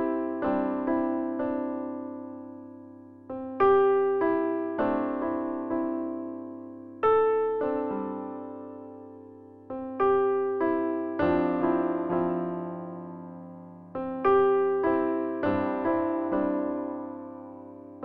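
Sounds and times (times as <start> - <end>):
slow electric piano music: 0.0 - 18.0.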